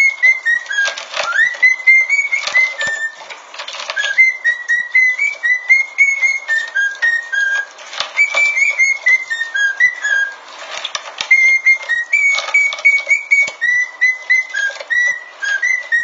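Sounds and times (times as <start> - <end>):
dog crunching kibble: 0.0 - 5.6, 6.2 - 16.0
cockatiel whistling a tune: 0.0 - 10.4, 11.2 - 16.0.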